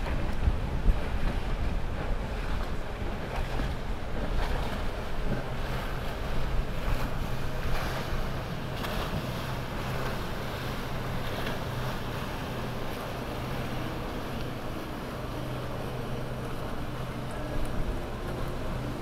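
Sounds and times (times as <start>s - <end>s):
outboard engines humming: 0.0s - 19.0s
water wash: 0.0s - 19.0s
wind buffeting microphone: 0.0s - 19.0s.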